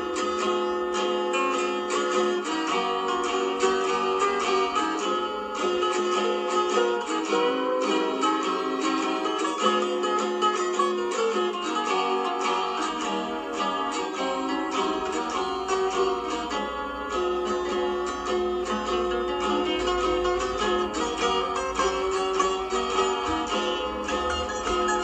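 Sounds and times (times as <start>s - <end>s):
guitar music: 0.0s - 25.0s.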